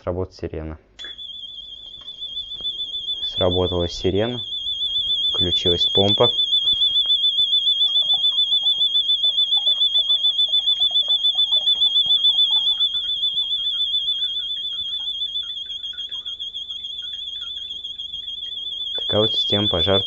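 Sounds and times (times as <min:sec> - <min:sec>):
warbling fire alarm siren: 0:01.0 - 0:20.0.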